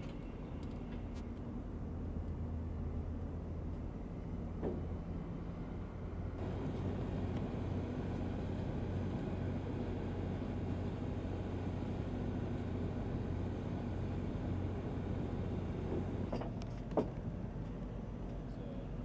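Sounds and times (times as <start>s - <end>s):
engine idling hum: 0.0s - 19.0s.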